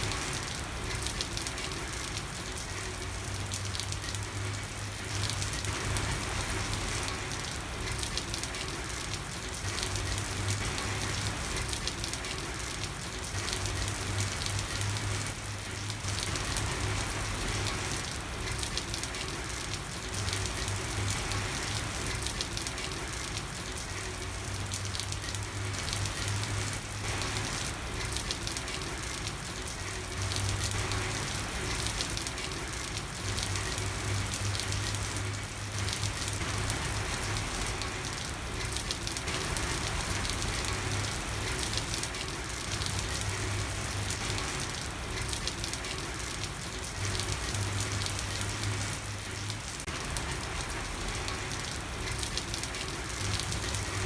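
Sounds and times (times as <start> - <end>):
rain falling on street: 0.0 - 54.0.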